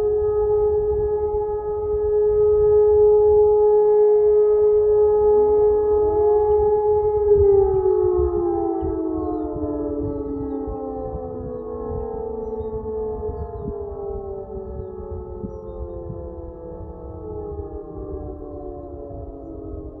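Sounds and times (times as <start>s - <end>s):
siren loud steady tone: 0.0s - 20.0s
siren winding down: 0.0s - 20.0s.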